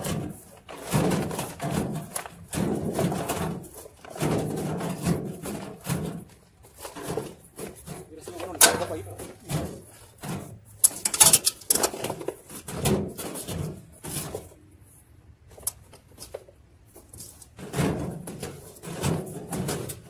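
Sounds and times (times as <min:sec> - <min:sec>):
plastic tub knocking and scraping: 0:00.0 - 0:14.6, 0:16.1 - 0:20.0.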